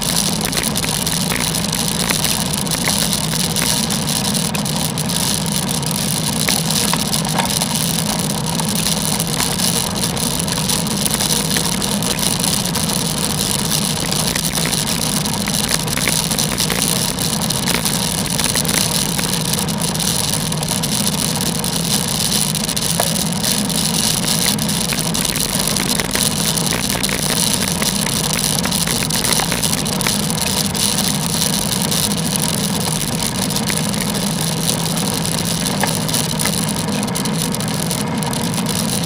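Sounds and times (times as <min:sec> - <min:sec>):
bicycle road noise on wet road: 0:00.0 - 0:39.0
faint ticks: 0:00.0 - 0:39.0.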